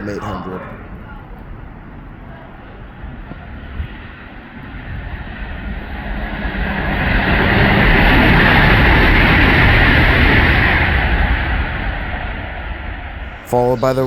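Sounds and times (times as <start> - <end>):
train hiss and rumble: 0.0 - 14.0.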